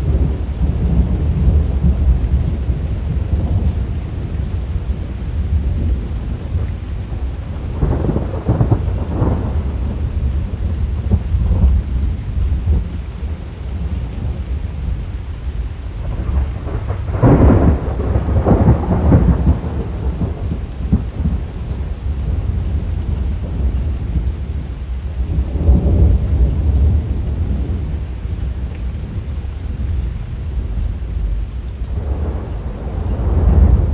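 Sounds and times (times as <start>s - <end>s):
thunder rolling: 0.0s - 14.4s, 16.0s - 24.6s, 25.2s - 33.9s
steady rain: 0.0s - 33.9s.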